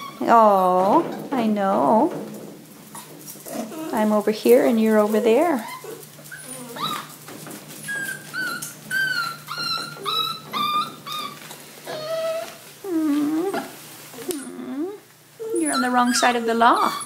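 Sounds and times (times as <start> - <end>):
puppies whining: 0.0 - 2.0, 2.8 - 17.0.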